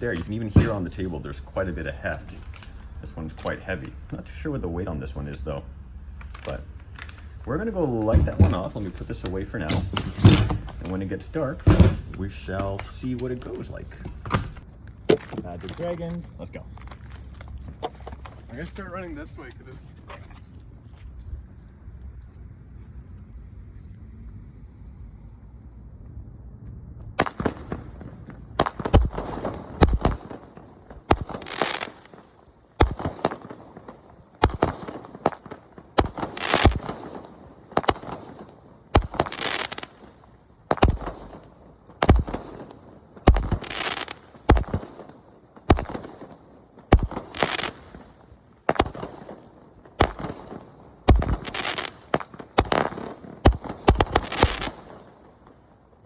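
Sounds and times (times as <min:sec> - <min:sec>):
firework tubes firing: 0:00.0 - 0:16.4, 0:27.2 - 0:55.7
crackling shells bursting: 0:00.0 - 0:19.5, 0:27.2 - 0:55.6.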